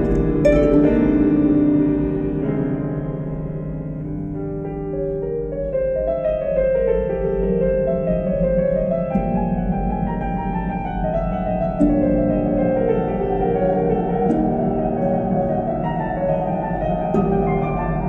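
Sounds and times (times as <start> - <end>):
instrumental piano music: 0.0 - 18.0.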